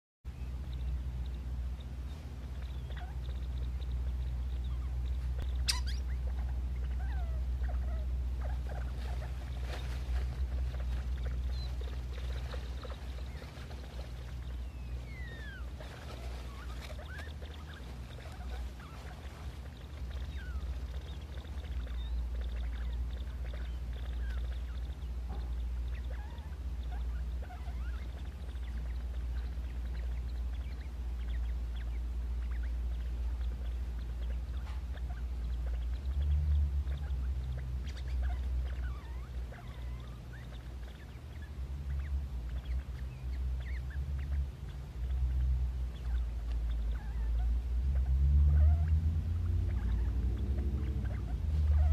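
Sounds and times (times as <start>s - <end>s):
rodent high squeaks: 0.6s - 51.9s.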